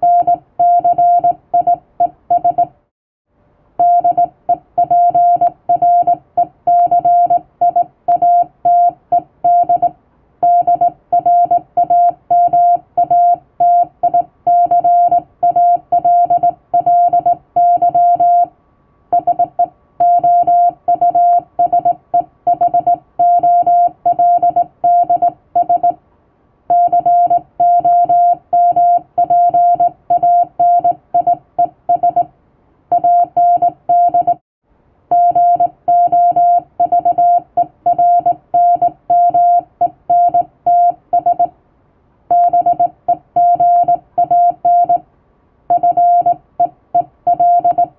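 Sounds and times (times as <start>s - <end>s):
morse code beeps: 0.0s - 2.7s, 3.8s - 18.5s, 19.1s - 26.0s, 26.7s - 32.3s, 32.9s - 34.4s, 35.1s - 41.5s, 42.3s - 45.0s, 45.7s - 47.9s.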